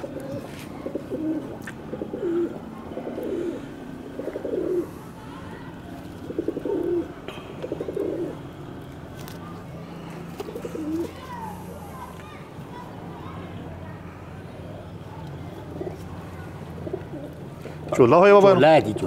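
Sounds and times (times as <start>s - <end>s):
pigeons cooing: 0.0s - 12.1s, 14.0s - 18.0s.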